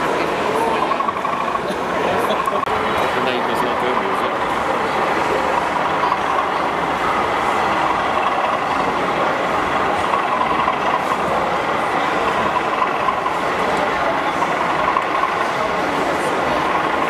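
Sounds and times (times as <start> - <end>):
model train running: 0.0 - 17.0.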